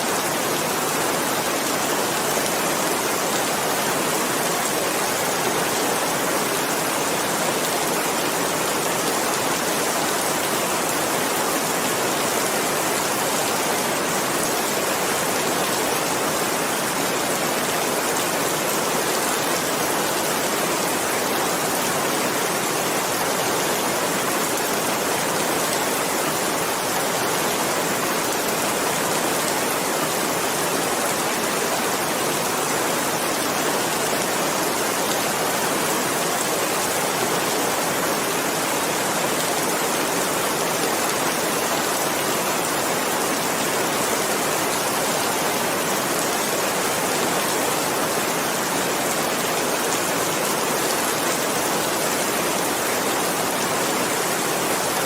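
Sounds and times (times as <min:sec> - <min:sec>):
steady dense rainfall: 0:00.0 - 0:55.0.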